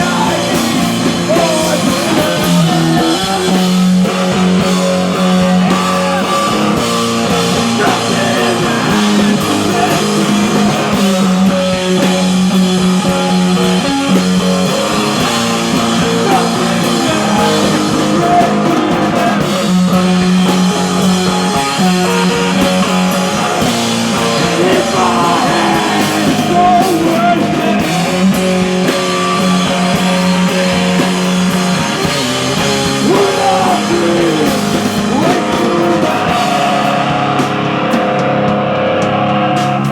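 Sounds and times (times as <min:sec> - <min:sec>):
person singing: 0:00.0 - 0:37.8
drum kit: 0:00.0 - 0:39.9
rock band guitars: 0:00.0 - 0:39.9.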